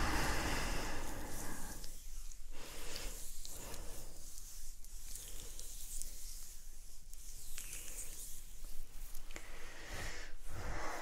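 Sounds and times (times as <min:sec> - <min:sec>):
oiled hands rubbing skin: 0:00.0 - 0:11.0.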